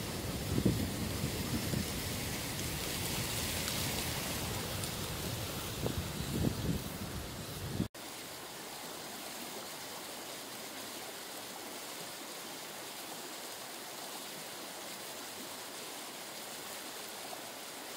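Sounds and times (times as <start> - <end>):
stream rushing over rocks: 0.0 - 17.9.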